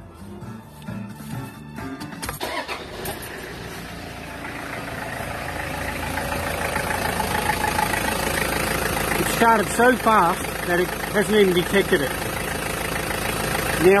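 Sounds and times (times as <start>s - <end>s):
car engine starting: 0.8s - 14.0s
car engine idling: 2.0s - 14.0s.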